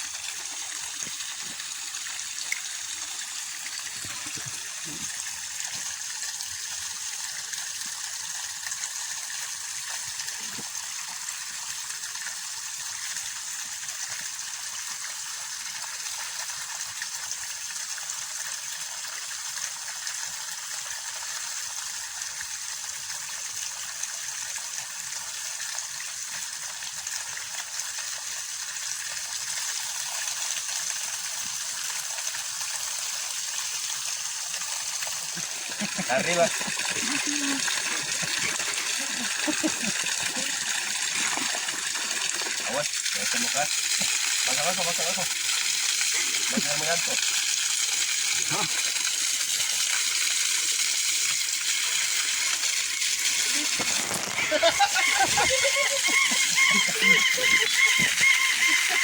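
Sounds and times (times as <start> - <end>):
water gushing and spraying: 0.0 - 59.0.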